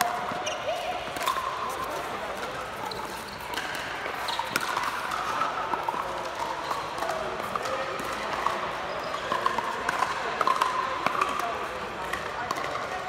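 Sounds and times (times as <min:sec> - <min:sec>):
court background noise: 0:00.0 - 0:13.0.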